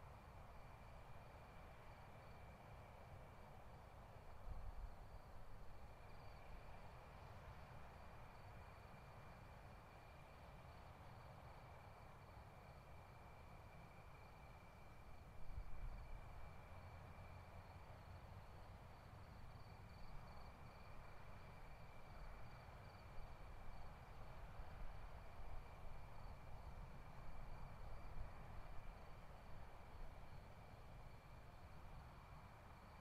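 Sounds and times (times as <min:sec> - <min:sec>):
faint high-pitched whine: 0:00.0 - 0:33.0.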